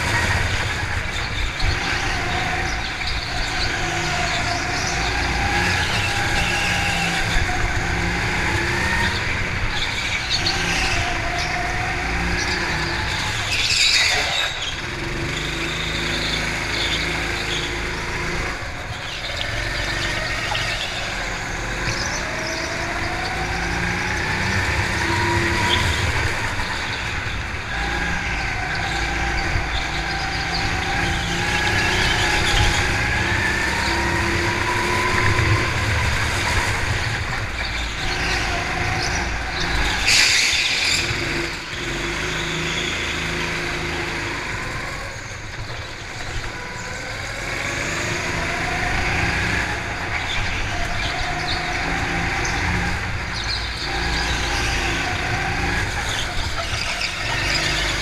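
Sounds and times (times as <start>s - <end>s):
go-kart engines revving: 0.0s - 58.0s.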